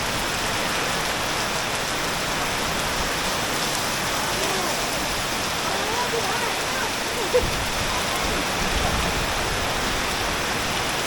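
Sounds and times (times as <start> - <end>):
heavy rain on pool water: 0.0 - 11.0.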